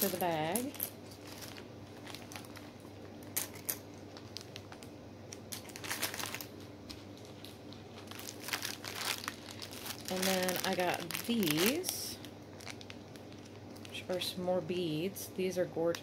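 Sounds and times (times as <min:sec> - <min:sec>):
plastic bag crinkling: 0:00.0 - 0:14.4.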